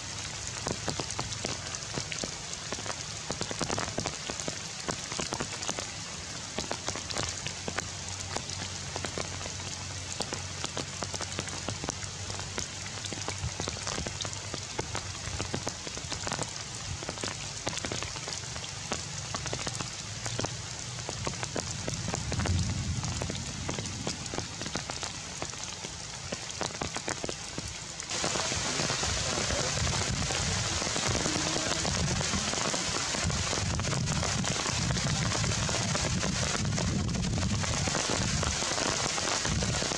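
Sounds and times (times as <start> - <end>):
rain on leaves: 0.0 - 39.9.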